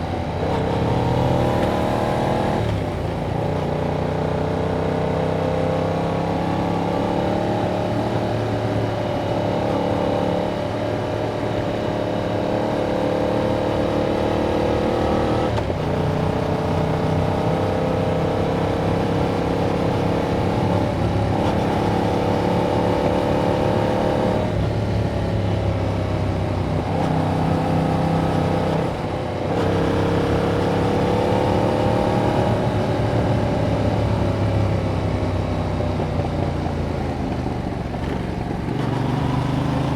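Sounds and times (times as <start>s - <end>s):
motorcycle engine revving: 0.1s - 39.9s.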